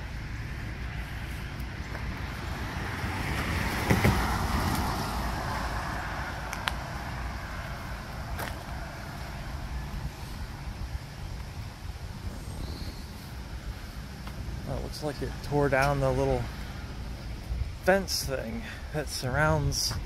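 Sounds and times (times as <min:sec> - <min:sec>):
car passing: 0:00.0 - 0:18.9.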